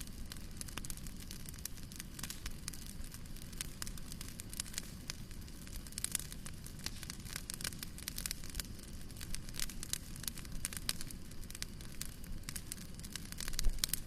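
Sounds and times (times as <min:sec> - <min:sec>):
fire crackles and pops: 0:00.0 - 0:14.0
wood fire burning: 0:00.0 - 0:14.0.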